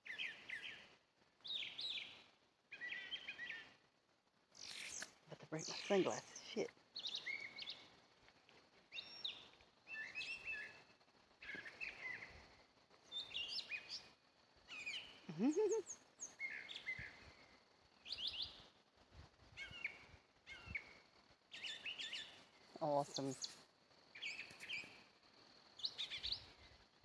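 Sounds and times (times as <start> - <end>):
songbird chirping: 0.0 - 3.9, 4.5 - 18.8, 19.5 - 27.0.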